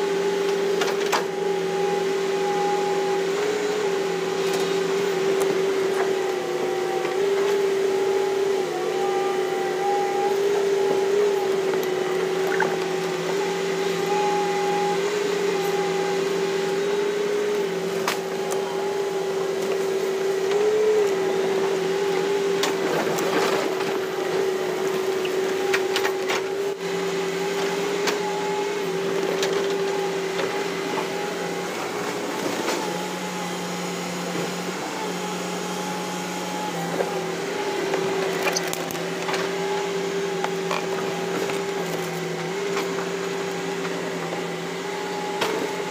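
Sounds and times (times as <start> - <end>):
excavator engine and hydraulics whine: 0.0 - 45.9.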